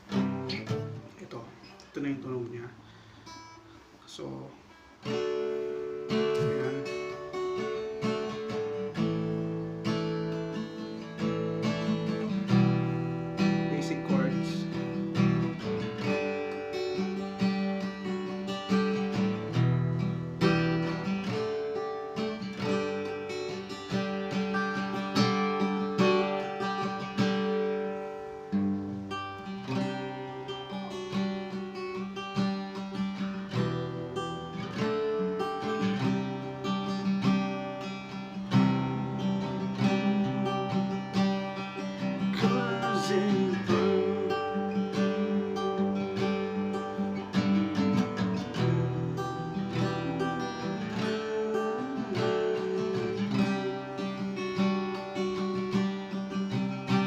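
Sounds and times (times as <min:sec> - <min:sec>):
acoustic guitar chords: 0:00.0 - 0:57.0.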